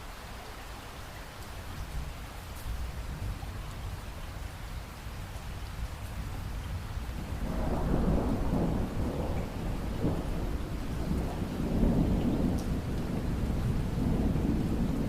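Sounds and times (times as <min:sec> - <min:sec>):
rain falling steadily: 0:00.0 - 0:15.0
low roll of thunder: 0:01.9 - 0:15.0.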